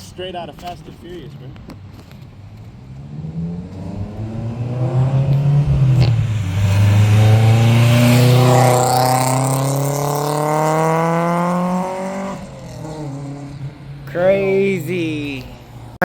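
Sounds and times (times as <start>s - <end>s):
car engine accelerating: 1.9s - 16.0s.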